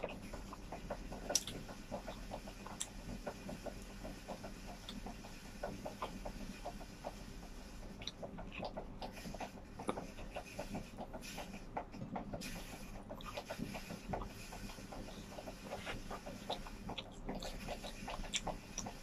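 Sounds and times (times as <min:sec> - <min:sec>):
person chewing and lip-smacking: 0:00.0 - 0:06.6, 0:08.0 - 0:11.1, 0:13.0 - 0:19.0.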